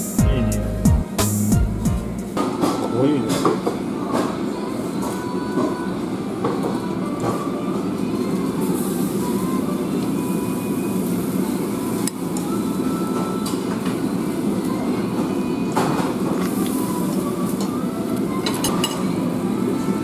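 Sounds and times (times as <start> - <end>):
grill burner and extractor hum: 0.0 - 20.0.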